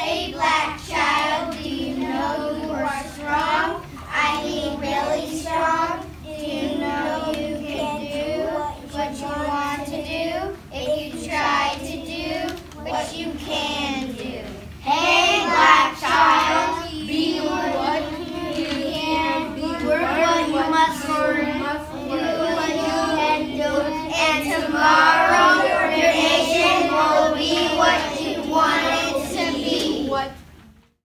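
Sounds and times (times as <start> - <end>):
children chanting in unison: 0.0 - 30.4.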